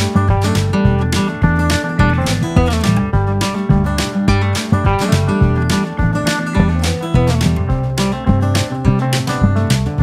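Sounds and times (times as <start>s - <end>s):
song with bass and drums: 0.0s - 10.0s.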